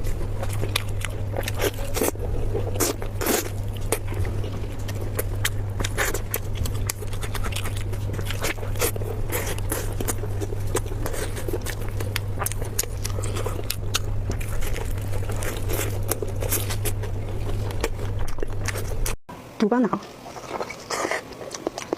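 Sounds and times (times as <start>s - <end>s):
wet chewing and crunching: 0.0s - 19.2s, 20.0s - 21.9s
steady low hum: 0.0s - 21.9s.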